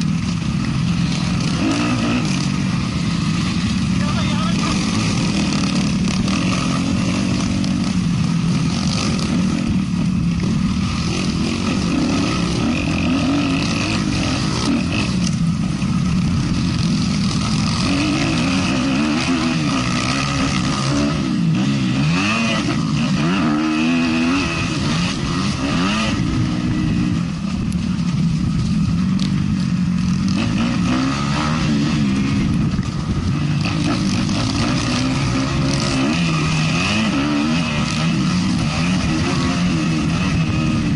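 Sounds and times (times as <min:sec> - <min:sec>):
motocross bike engine revving: 0:00.0 - 0:40.9
wind and track noise: 0:00.0 - 0:40.9.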